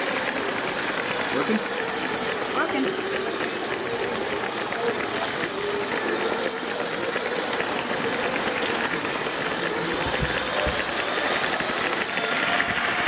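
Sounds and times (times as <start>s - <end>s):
small electric motor humming: 0.0s - 13.0s
toy train wheels clattering: 0.0s - 13.0s.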